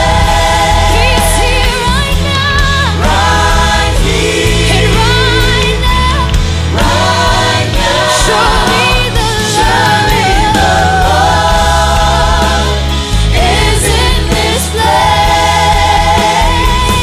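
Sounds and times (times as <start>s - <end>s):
band accompaniment with heavy bass: 0.0s - 17.0s
group singing gospel song: 0.0s - 17.0s.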